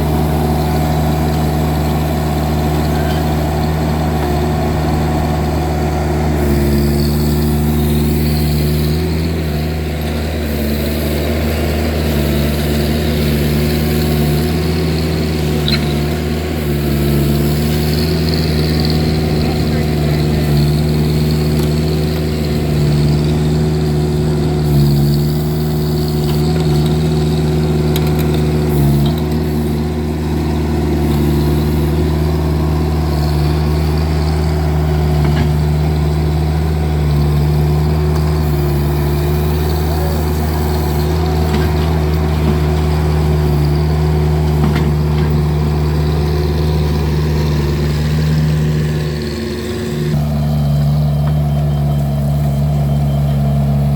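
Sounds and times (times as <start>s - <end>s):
skid steer engine running: 0.0s - 53.9s.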